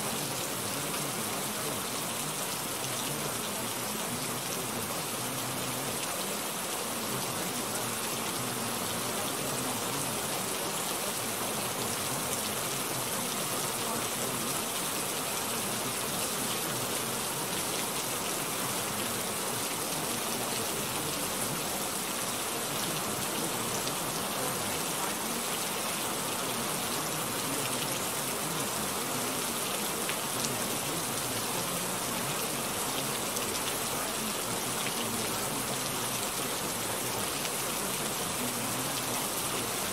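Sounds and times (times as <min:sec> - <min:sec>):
rain-like hiss: 0:00.0 - 0:39.9.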